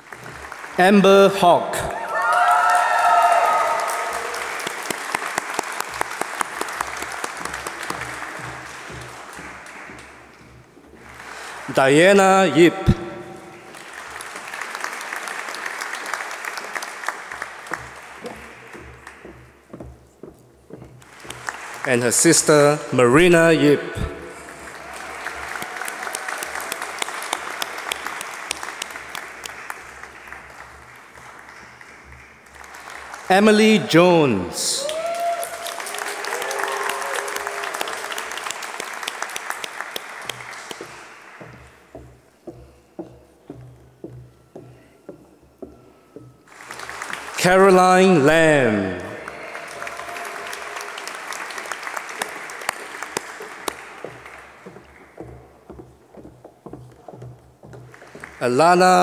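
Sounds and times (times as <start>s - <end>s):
audience applauding: 0.0s - 19.8s, 20.8s - 23.2s, 24.2s - 42.2s, 46.5s - 55.9s, 56.7s - 59.0s.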